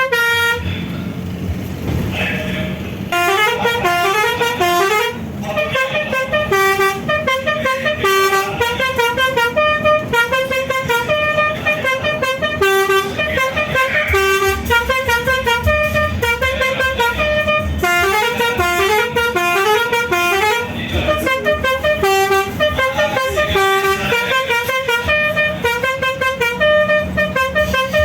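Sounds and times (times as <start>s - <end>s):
musical multi-tone horn: 0.0s - 0.7s, 3.1s - 28.0s.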